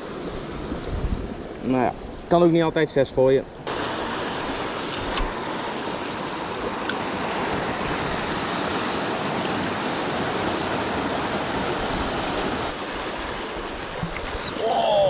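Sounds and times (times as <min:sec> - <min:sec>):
sea surf on rocky shore: 0:00.0 - 0:02.8, 0:03.4 - 0:15.0.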